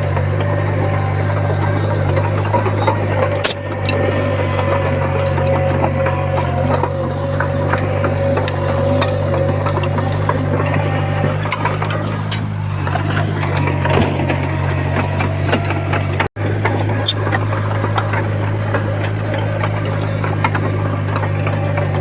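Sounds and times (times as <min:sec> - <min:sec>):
heavy machinery diesel engine: 0:00.0 - 0:22.0.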